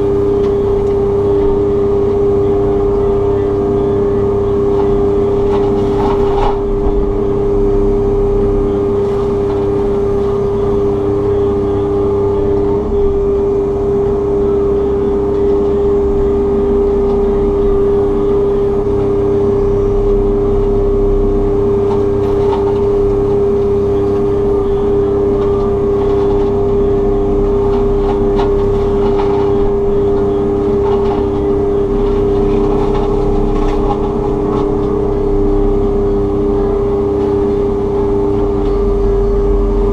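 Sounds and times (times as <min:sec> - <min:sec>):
excavator engine drone: 0:00.0 - 0:39.9
mulching head whine: 0:00.0 - 0:39.9.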